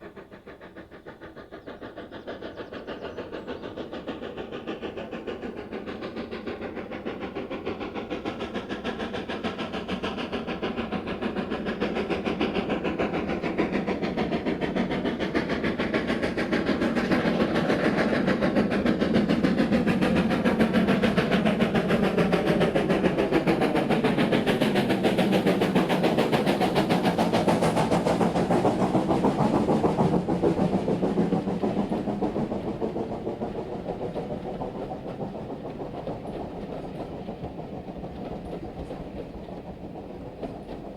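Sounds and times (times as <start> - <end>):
steam locomotive working hard: 0.0 - 40.9.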